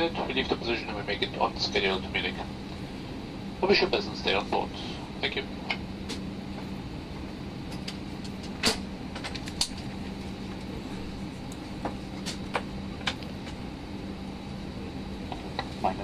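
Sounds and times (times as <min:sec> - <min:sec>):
cabin ventilation hum: 0:00.0 - 0:16.0.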